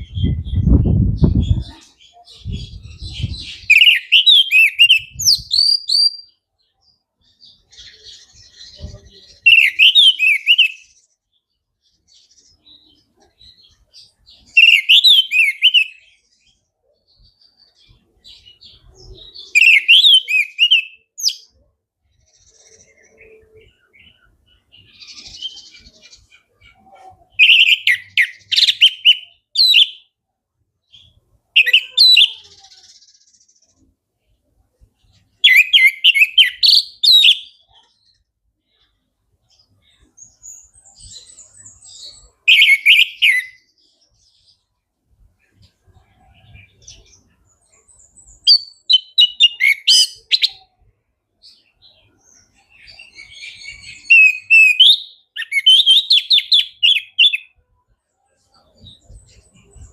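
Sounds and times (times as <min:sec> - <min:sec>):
soft bird chirps: 0:00.0 - 0:59.9.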